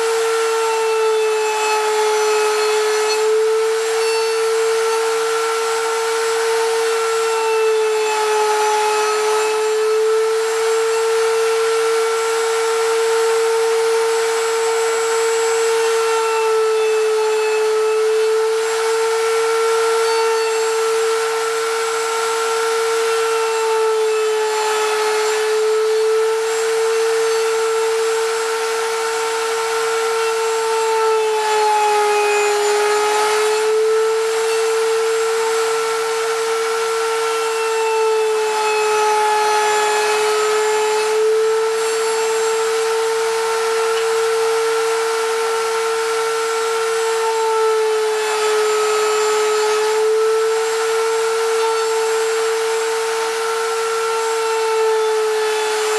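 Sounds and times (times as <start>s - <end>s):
router high whine: 0.0s - 55.9s.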